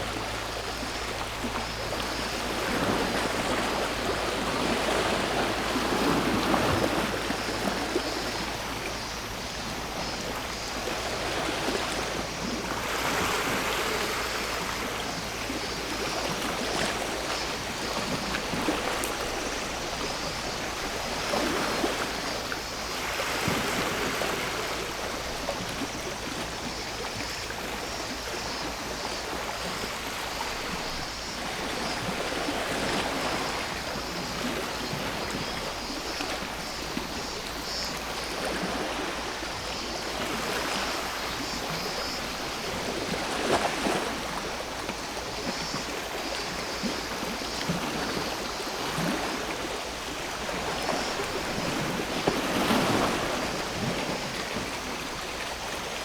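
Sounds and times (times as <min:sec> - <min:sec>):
cicadas buzzing: 0:00.0 - 0:56.0
sea waves washing ashore: 0:00.0 - 0:56.0.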